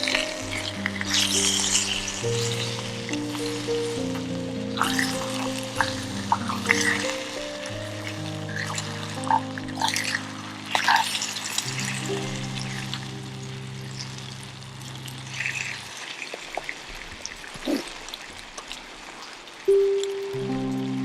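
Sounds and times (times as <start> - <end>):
soft background music: 0.0 - 16.2, 19.7 - 21.0
food sizzling in a pan: 0.0 - 21.0.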